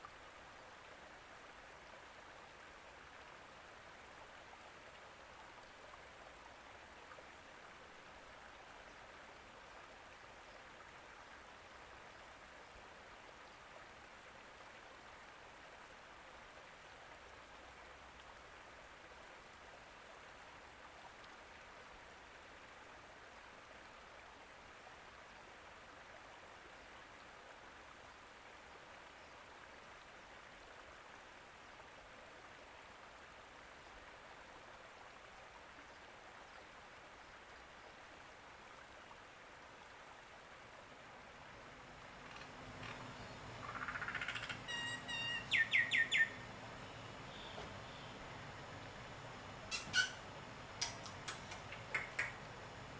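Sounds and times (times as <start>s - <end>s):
faint steady rushing noise: 0.0s - 52.9s.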